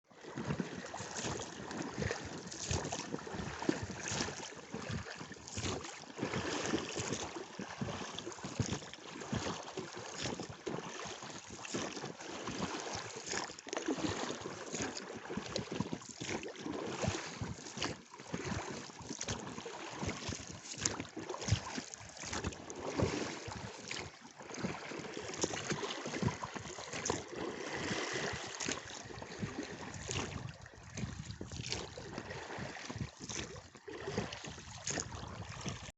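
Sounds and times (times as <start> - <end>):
water splashing and lapping: 0.1 - 35.9.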